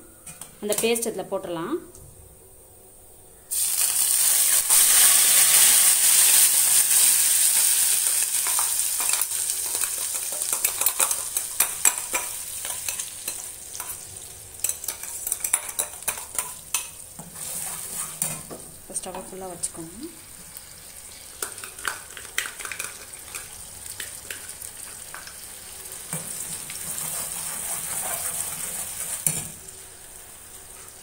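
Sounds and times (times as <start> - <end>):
paste sizzling in hot oil: 3.5 - 18.5, 20.2 - 31.0.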